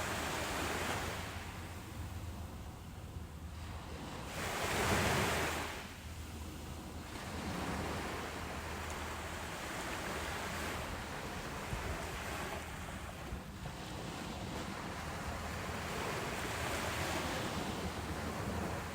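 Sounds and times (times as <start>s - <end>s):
ocean waves breaking on beach: 0.0s - 18.9s.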